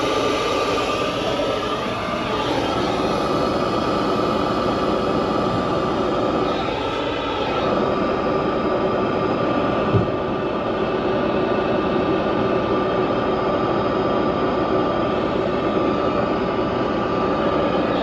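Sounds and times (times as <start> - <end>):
truck engine drone with whine: 0.0 - 18.0.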